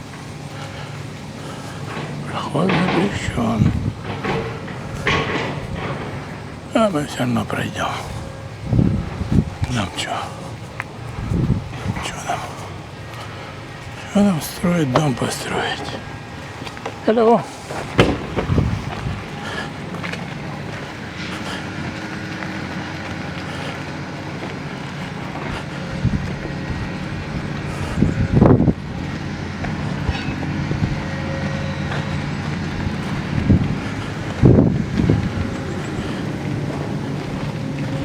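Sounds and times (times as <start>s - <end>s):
machinery engine running: 0.0s - 38.0s.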